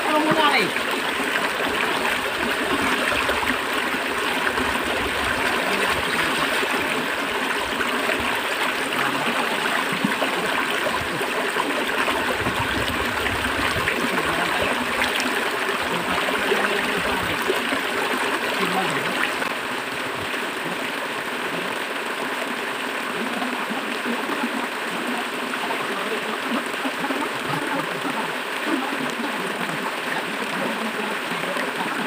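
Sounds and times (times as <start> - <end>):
river water flowing: 0.0 - 32.0.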